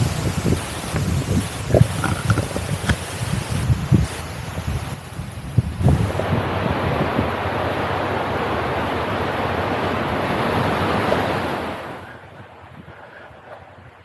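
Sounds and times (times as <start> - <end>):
sea surf washing onto shore: 0.0 - 14.0
wind thumping on microphone: 0.0 - 14.0.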